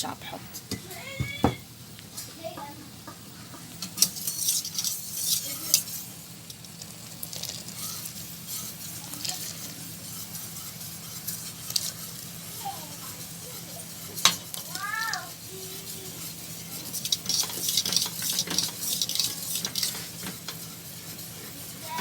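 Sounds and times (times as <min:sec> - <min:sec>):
steady low hum: 0:00.0 - 0:22.0
spoon scraping pot: 0:03.5 - 0:22.0.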